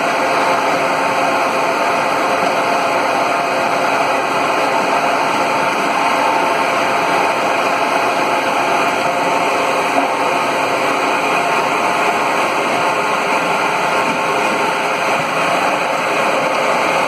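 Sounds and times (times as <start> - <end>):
boiler plant machinery hum: 0.0 - 17.0
faint fan and pump tones: 0.0 - 17.0.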